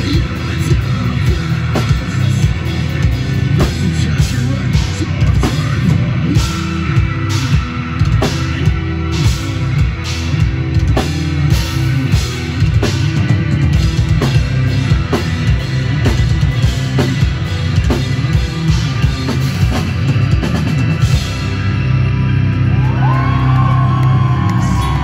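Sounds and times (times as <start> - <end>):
bass guitar: 0.0 - 25.0
distorted electric guitars: 0.0 - 25.0
drum kit: 0.0 - 25.0.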